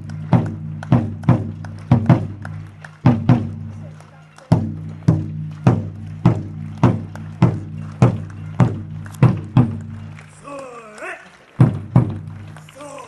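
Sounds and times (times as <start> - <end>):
large drum beating: 0.0 - 10.4, 11.6 - 12.6.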